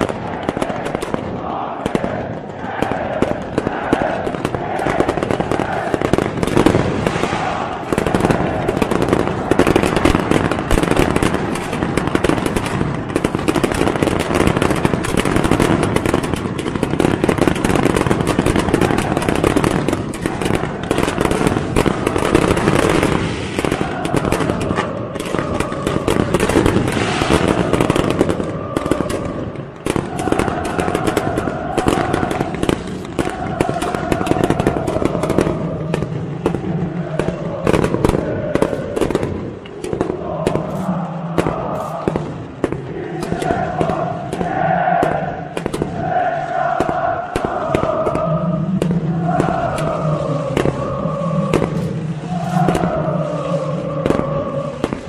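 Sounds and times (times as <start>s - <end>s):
crowd chanting: 0.0s - 55.0s
fireworks crackling and banging: 0.0s - 55.0s.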